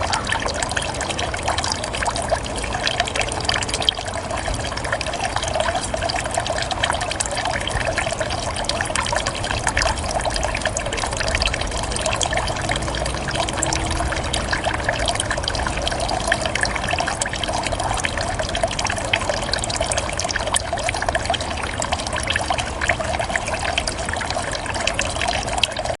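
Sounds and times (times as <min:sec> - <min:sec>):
small water splashes: 0:00.0 - 0:26.0
water trickling into a basin: 0:00.0 - 0:26.0.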